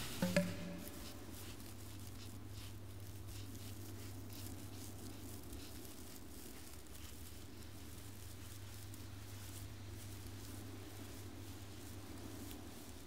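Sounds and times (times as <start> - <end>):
soft rustling: 0.0 - 13.0
steady low hum: 0.0 - 13.0.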